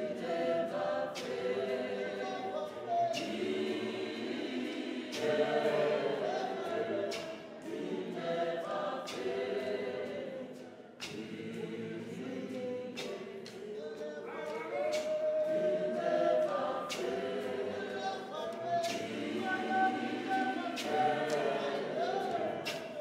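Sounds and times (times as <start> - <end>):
choir singing gospel a cappella: 0.0 - 23.0.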